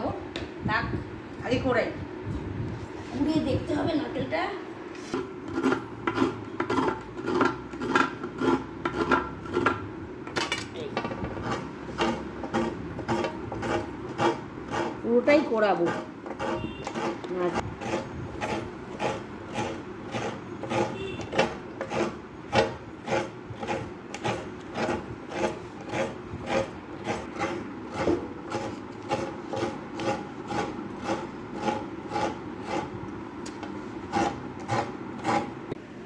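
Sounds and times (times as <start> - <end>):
coconut rasping on scraper: 5.0 - 9.9, 11.0 - 35.8.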